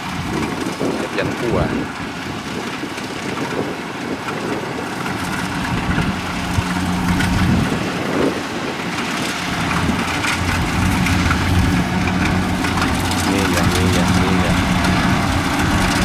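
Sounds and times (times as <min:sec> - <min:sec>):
combine harvester diesel engine running: 0:00.0 - 0:16.0.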